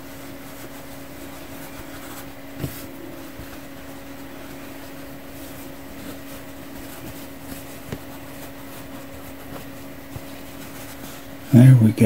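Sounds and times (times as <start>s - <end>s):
fabric rustling and ticking: 0.0s - 11.6s
steady mechanical hum: 0.0s - 12.0s.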